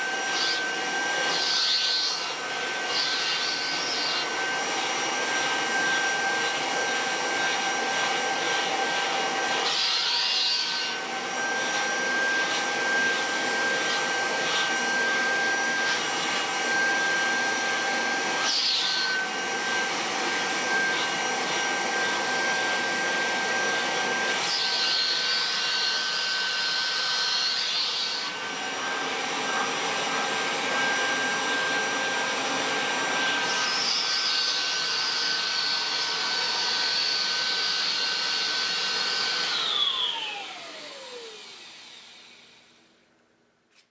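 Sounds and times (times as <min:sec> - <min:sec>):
upright vacuum cleaner running: 0:00.0 - 0:42.8.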